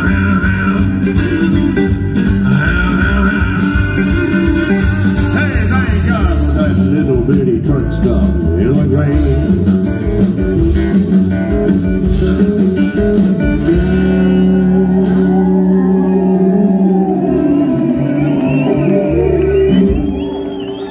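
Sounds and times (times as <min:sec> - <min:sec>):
country band playing: 0:00.0 - 0:20.9.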